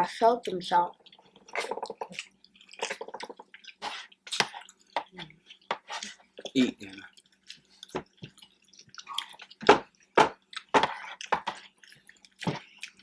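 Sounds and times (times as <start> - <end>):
wet chewing mouth sounds: 0.9 - 13.0.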